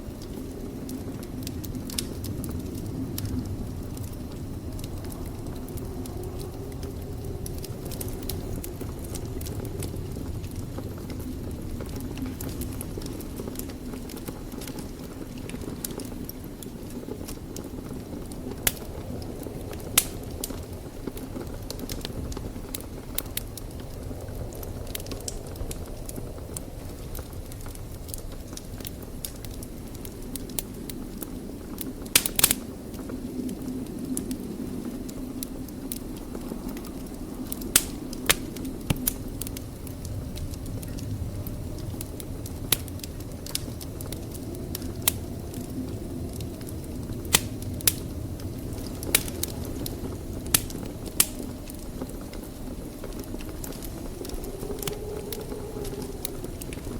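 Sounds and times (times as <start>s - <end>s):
low rush of flame: 0.0s - 56.9s
wood fire crackling and popping: 0.0s - 56.9s.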